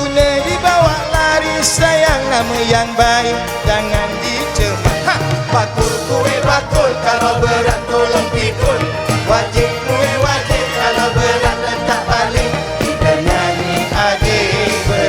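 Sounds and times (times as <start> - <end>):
quick steady drumbeat: 0.0 - 15.0.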